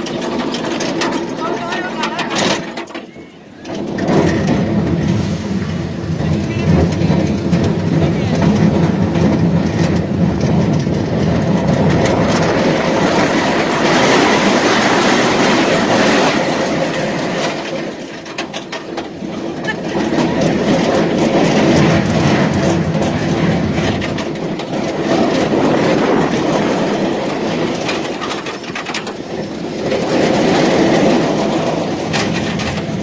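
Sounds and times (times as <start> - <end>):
roller coaster rattling on track: 0.0 - 33.0
wind buffeting microphone: 3.6 - 33.0.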